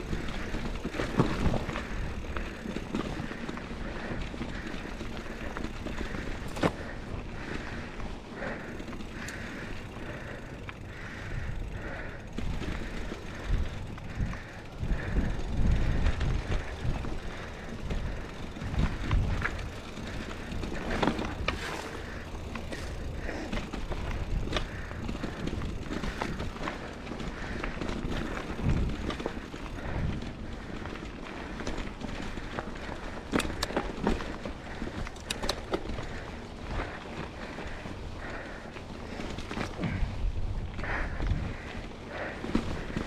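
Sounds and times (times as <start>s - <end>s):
bike rattling and knocking: 0.0s - 43.0s
bike tyres rumbling on dirt: 0.0s - 43.0s.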